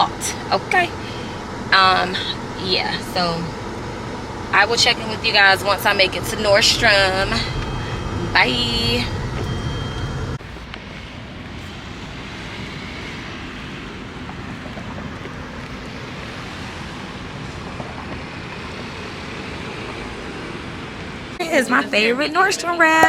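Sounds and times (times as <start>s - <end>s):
heavy low rumble: 0.0s - 21.4s
road traffic noise: 0.0s - 23.0s.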